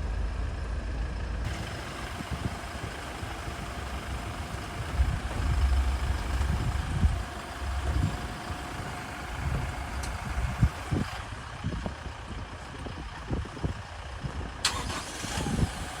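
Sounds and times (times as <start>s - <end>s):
pickup engine idling: 0.1s - 16.0s.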